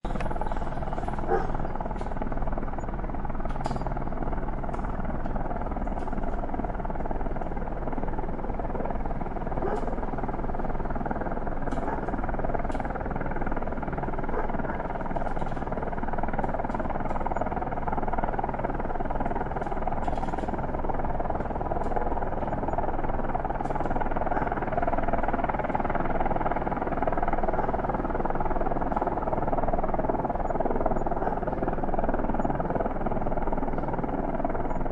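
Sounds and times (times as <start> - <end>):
distant helicopter hovering: 0.0 - 34.9.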